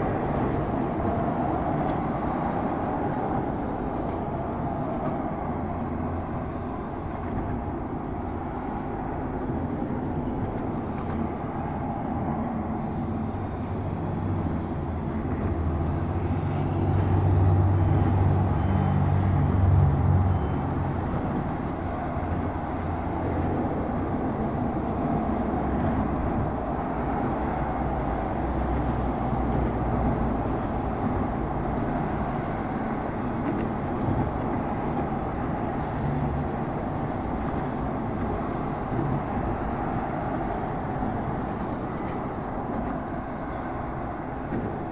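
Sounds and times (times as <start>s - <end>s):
city traffic rumble: 0.0s - 44.9s.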